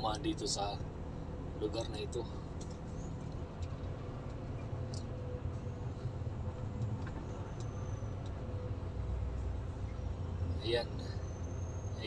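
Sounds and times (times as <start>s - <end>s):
lorry diesel engine rumble: 0.0s - 12.0s
road noise: 0.0s - 12.0s.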